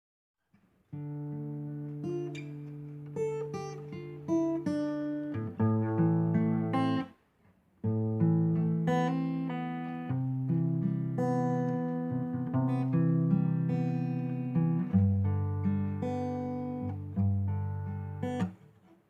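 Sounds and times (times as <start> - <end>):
acoustic guitar playing: 0.9 - 7.2, 7.8 - 19.0.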